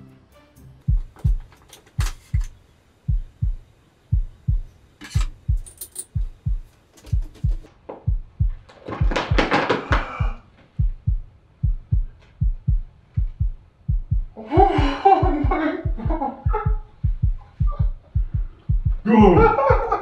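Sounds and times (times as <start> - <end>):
heartbeat thuds: 0.9 - 20.0.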